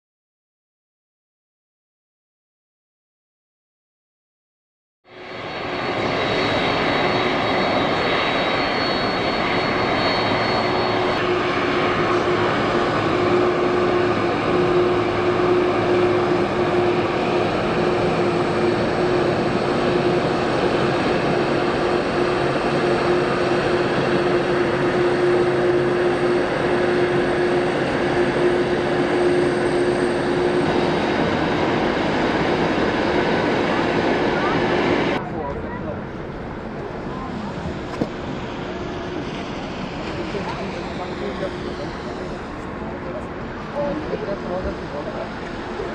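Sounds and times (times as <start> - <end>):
jet engines humming: 5.1 - 45.9.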